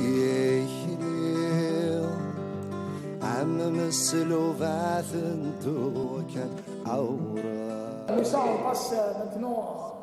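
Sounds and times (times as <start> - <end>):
soft slow background music: 0.0 - 8.1.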